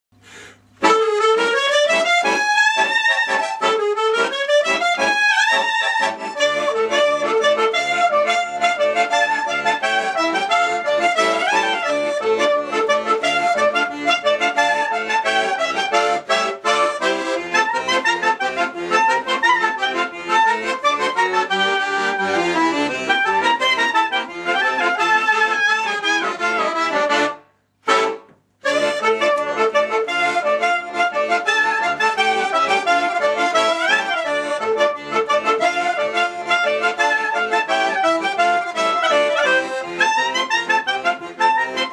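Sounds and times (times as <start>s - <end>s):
accordion chords: 0.2s - 41.9s
clarinet glides: 0.8s - 41.9s.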